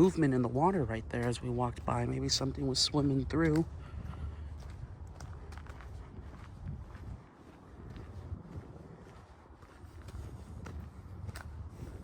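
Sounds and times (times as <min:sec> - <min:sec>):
footsteps on a trail: 0:00.0 - 0:12.0
steady low rumble: 0:00.0 - 0:12.0.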